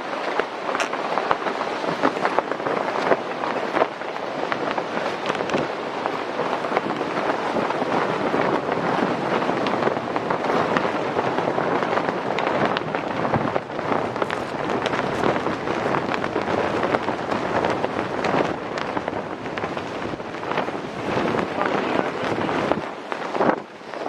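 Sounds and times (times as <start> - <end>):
rain pattering: 0.0 - 24.0
storm wind rushing: 0.0 - 24.0.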